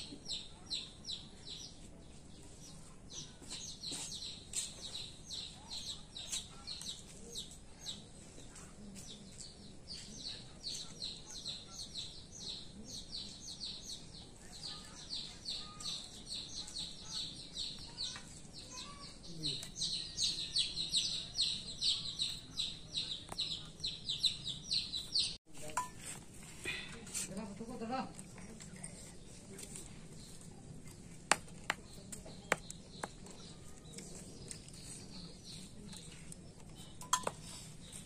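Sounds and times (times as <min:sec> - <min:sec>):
small birds chirping: 0:00.0 - 0:25.9, 0:26.6 - 0:38.0.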